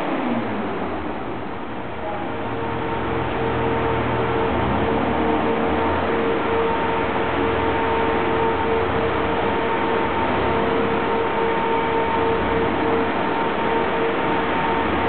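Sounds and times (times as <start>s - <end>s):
car engine running: 0.0s - 15.0s
faint steady whine: 0.0s - 15.0s.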